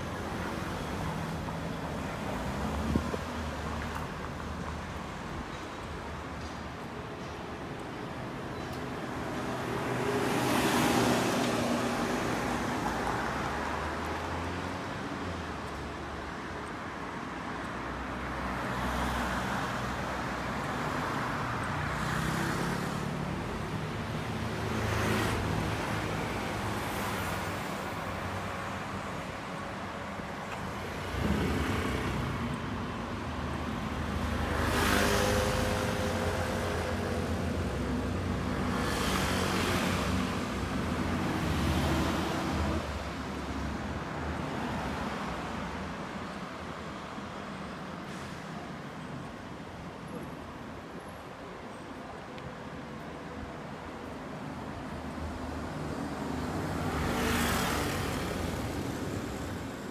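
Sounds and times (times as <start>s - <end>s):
cars and scooters passing: 0.0s - 59.9s.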